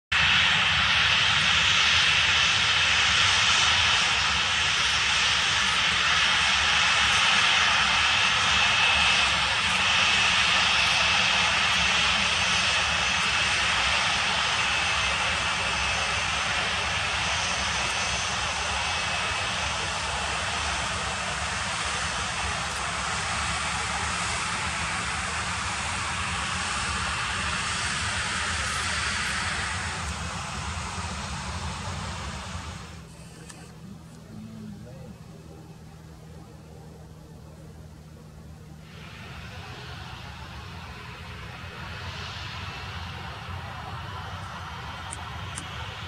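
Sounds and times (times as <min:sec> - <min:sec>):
jet engines whining: 0:00.2 - 0:46.0.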